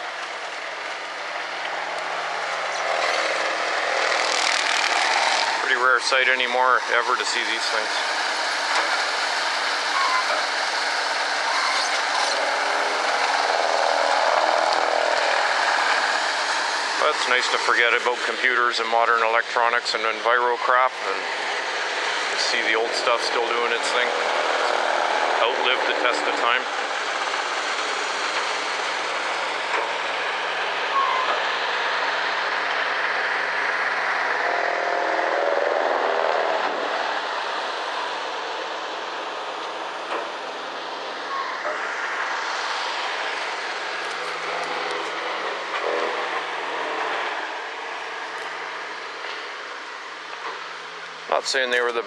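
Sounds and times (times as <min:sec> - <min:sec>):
wood grinder running: 0:00.0 - 0:50.6
hydraulic excavator working: 0:00.0 - 0:52.0
pitched hum: 0:00.0 - 0:52.0.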